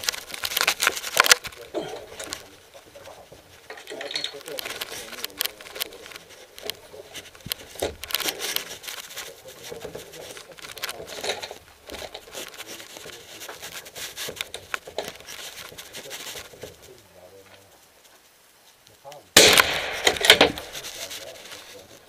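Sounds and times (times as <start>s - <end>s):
clothing and gear rustling: 0.0s - 18.8s, 19.9s - 22.0s.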